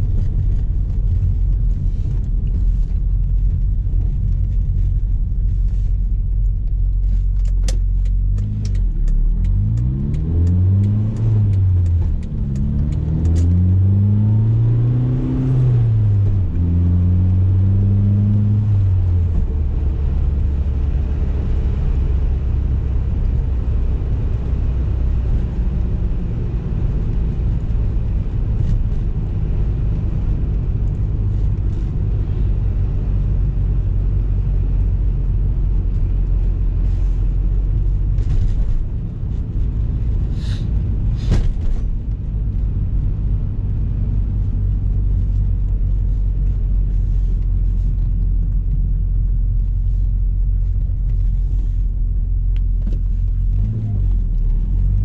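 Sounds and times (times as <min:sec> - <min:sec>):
car engine drone from cabin: 0:00.0 - 0:55.0.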